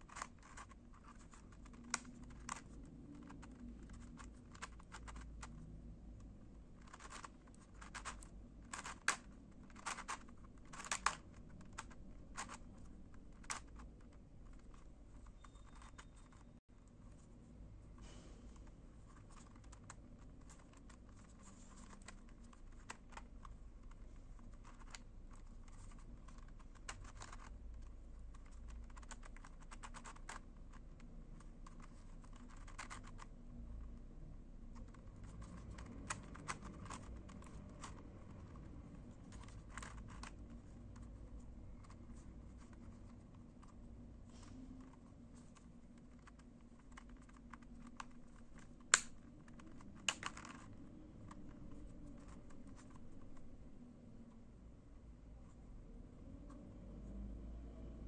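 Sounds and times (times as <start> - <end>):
twisty puzzle clicking and scraping: 0.0 - 17.3, 18.5 - 53.6.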